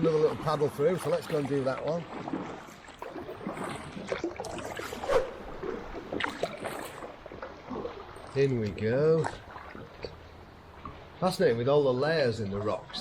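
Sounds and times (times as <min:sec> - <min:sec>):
kayak paddle splashing water: 0:00.0 - 0:11.6.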